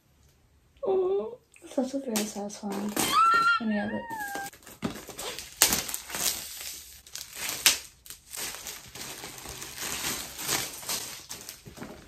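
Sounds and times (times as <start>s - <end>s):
plastic shrink-wrap crinkling: 1.8s - 12.0s.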